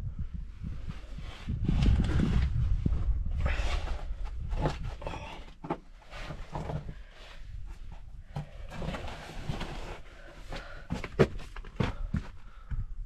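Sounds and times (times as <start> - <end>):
microphone handling rumble: 0.0 - 13.0.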